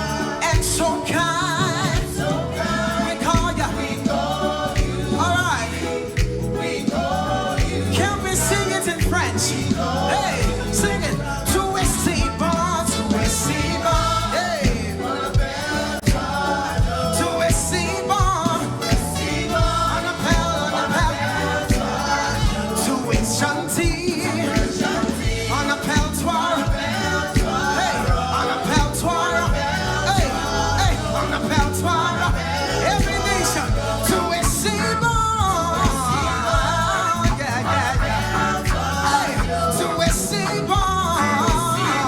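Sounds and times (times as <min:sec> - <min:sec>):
band with drum beat and bass: 0:00.0 - 0:42.0
choir and congregation singing: 0:00.0 - 0:42.0.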